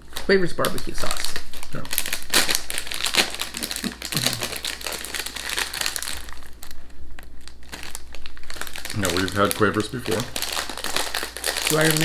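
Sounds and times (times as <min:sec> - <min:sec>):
crisp packet crinkling: 0:00.0 - 0:12.0.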